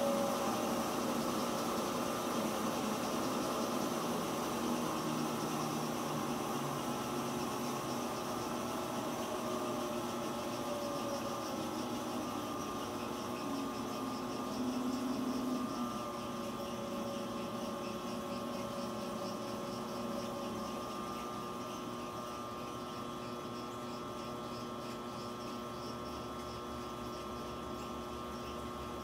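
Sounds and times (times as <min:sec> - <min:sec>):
motor and gearing whining hum: 0:00.0 - 0:29.0.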